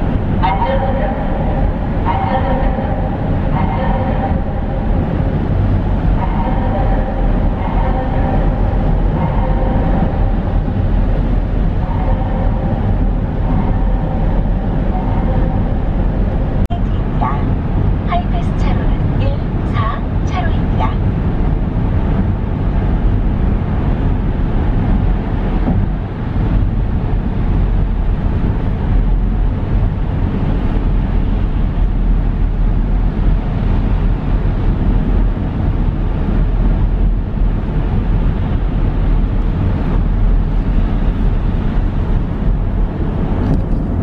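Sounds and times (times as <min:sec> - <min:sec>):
car road noise rumble: 0:00.0 - 0:44.0.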